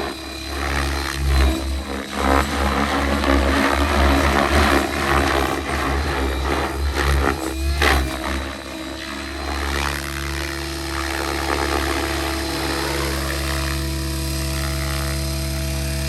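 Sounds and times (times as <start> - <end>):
rc helicopter rotor drone: 0.0 - 16.0.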